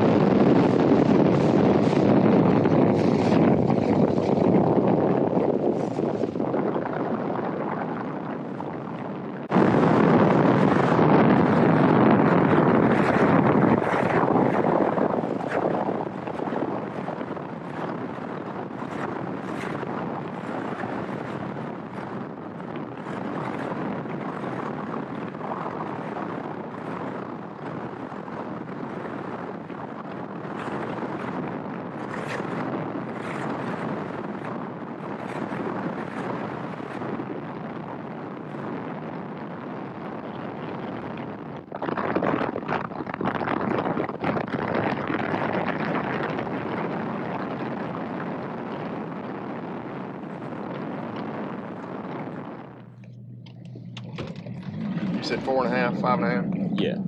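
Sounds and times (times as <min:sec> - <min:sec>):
boat hull and water noise: 0:00.0 - 0:57.0
wind rushing on microphone: 0:00.0 - 0:57.0.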